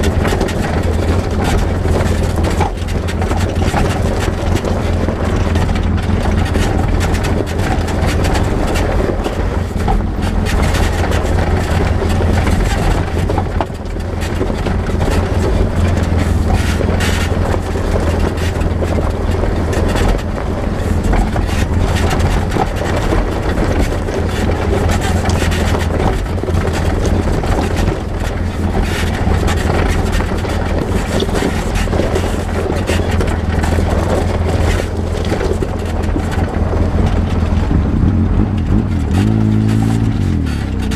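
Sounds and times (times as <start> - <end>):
knocks and rattles: 0.0 - 40.9
utility vehicle engine running: 0.0 - 40.9.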